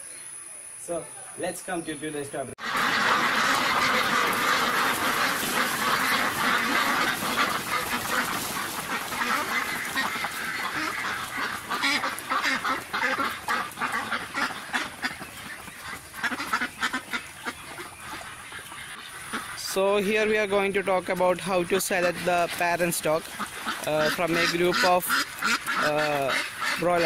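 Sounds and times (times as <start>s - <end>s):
ducks quacking: 0.9s - 27.0s.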